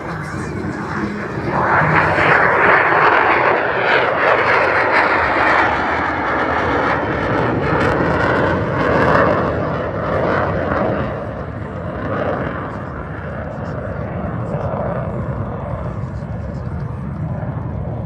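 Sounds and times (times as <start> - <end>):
fighter jet flying past: 0.0 - 15.5.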